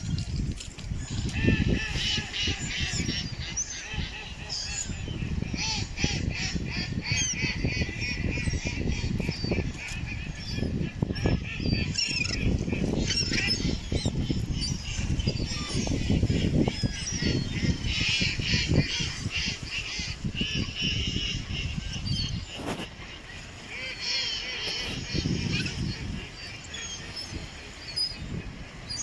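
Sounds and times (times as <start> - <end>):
waterfowl calling: 1.1 - 29.0.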